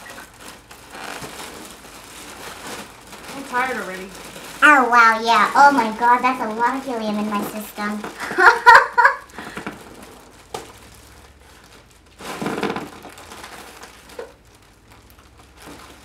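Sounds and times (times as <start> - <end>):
foil balloon crinkling: 0.0 - 16.0.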